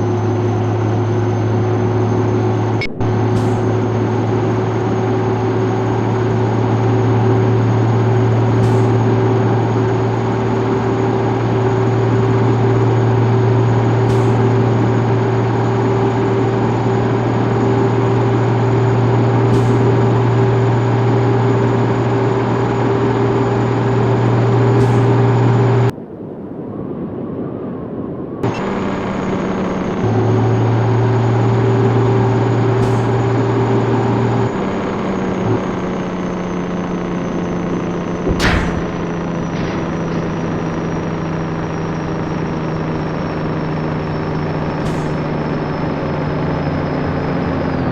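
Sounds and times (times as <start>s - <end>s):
diesel truck engine running: 0.0s - 25.9s, 28.4s - 47.9s.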